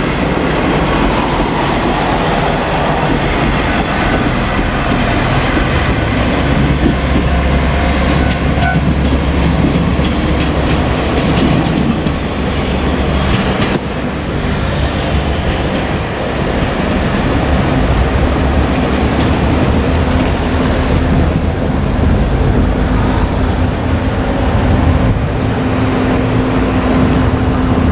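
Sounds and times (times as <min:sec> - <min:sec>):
diesel engine drone: 0:00.0 - 0:27.9
wheels clacking over rail joints: 0:00.0 - 0:27.9.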